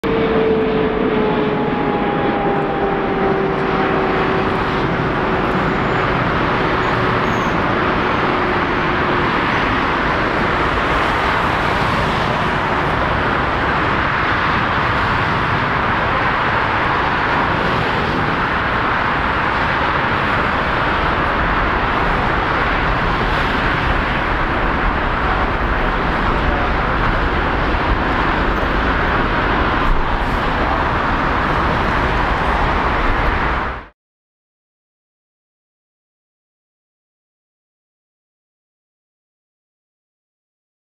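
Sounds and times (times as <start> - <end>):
engine and airport rush: 0.0 - 34.0
jet engine whine: 0.0 - 34.0.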